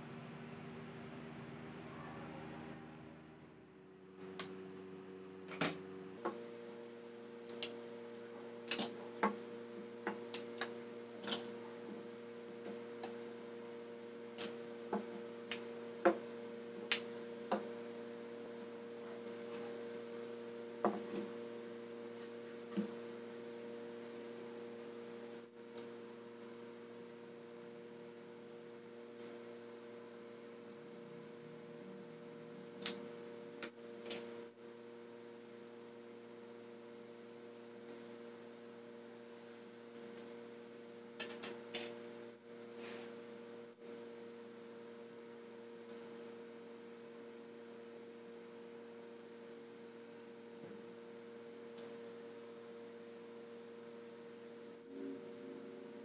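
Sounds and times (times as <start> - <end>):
steady hum: 0.0 - 48.2, 49.6 - 56.0.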